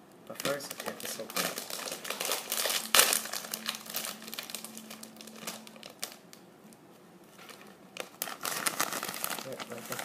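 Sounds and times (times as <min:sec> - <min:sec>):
chip bag rustling: 0:00.4 - 0:06.2, 0:07.4 - 0:10.0.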